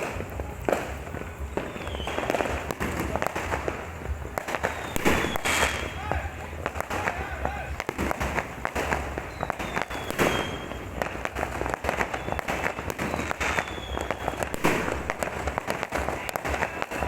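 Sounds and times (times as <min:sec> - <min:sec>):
faint firework whistle: 0:00.0 - 0:17.0
fireworks crackling and banging: 0:00.0 - 0:17.0.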